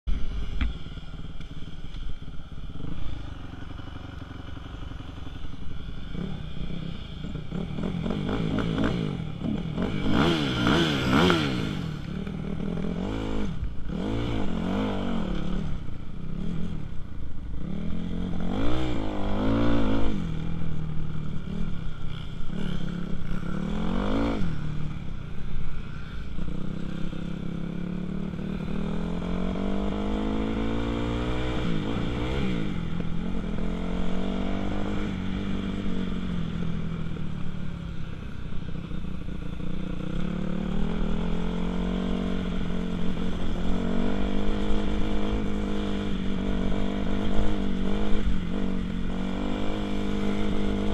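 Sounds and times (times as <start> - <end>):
motorcycle engine revving: 0.1 - 50.9.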